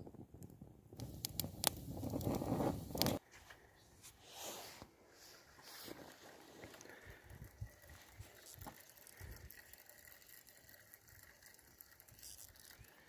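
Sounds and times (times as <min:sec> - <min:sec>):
faint outdoor hiss: 0:00.2 - 0:13.0.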